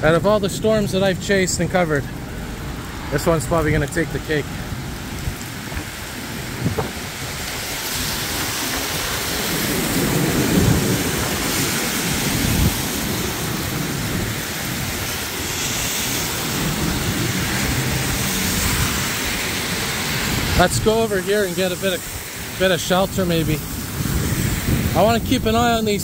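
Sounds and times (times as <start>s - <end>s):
heavy rain pouring: 0.0s - 26.0s
thunder rumbling: 0.0s - 26.0s.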